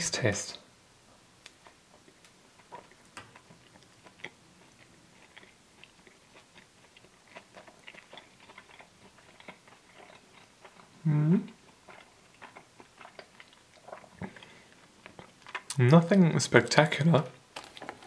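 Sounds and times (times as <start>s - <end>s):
close-up chewing: 1.4s - 15.8s, 17.5s - 18.0s.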